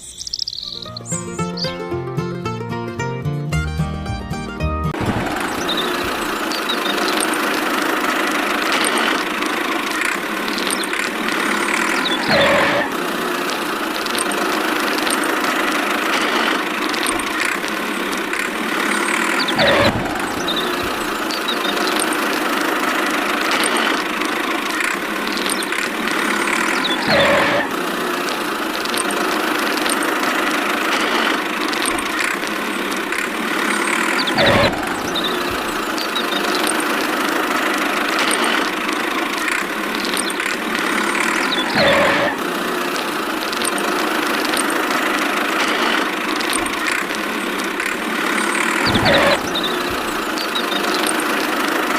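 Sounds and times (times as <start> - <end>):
small motor running: 5.0 - 51.9.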